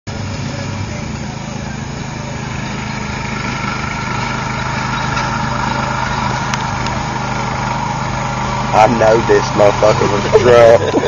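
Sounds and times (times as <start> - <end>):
lawn mower engine running: 0.1 - 11.0.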